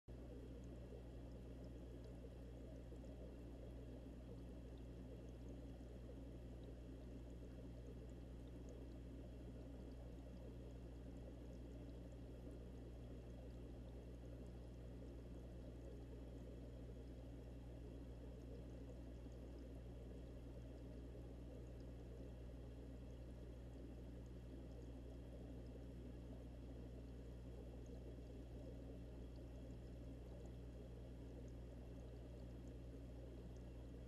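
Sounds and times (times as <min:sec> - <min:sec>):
muffled underwater bubbling: 0:00.1 - 0:34.0
steady low hum: 0:00.1 - 0:34.0.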